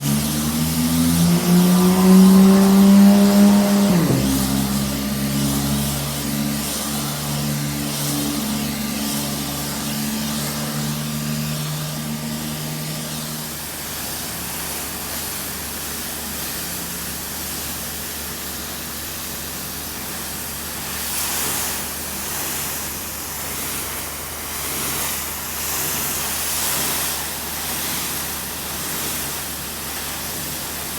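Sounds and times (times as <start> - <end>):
high-pressure water spray hiss: 0.0 - 30.9
pressure washer motor hum: 0.0 - 30.9.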